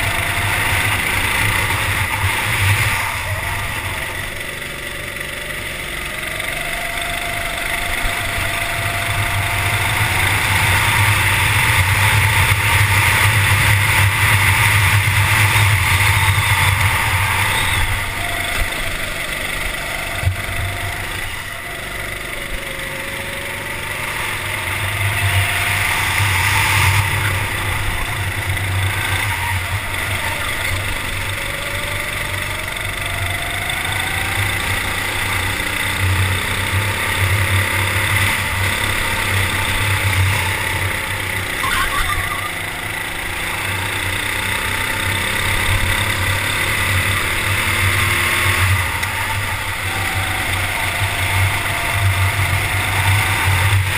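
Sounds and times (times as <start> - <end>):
kart engine at speed: 0.0 - 53.9.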